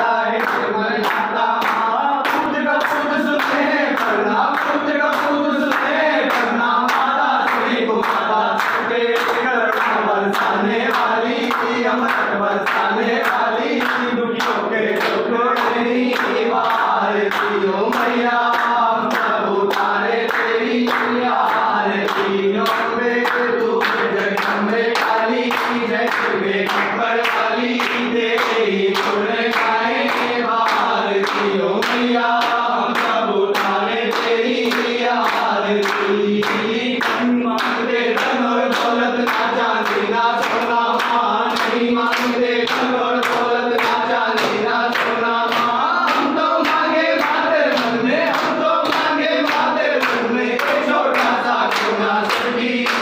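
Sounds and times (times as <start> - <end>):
hand-clapping: 0.0 - 53.0
men singing devotional song: 0.0 - 53.0.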